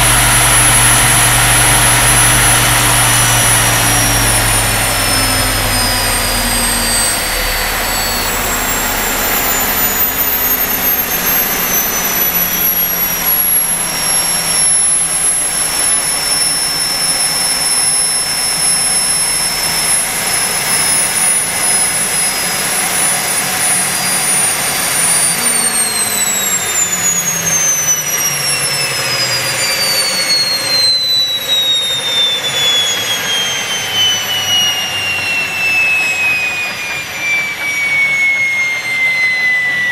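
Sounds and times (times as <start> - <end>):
turbine engine high whine: 0.0 - 39.9.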